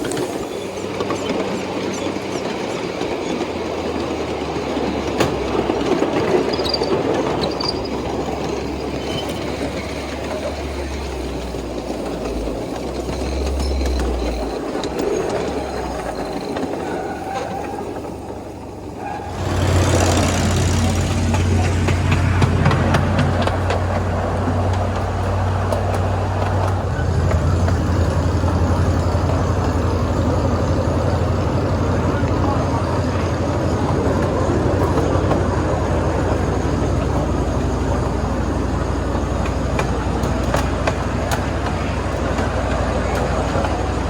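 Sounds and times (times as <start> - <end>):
miniature steam train running: 0.0 - 44.0.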